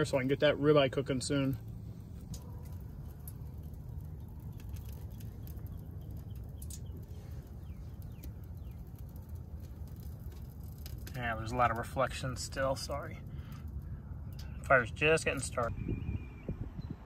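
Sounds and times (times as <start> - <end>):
wood fire crackling: 0.0 - 15.9.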